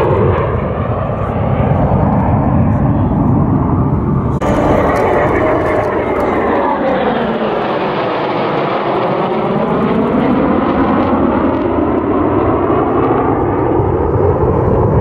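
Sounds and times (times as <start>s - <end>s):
jet aircraft roaring past: 0.0s - 15.0s.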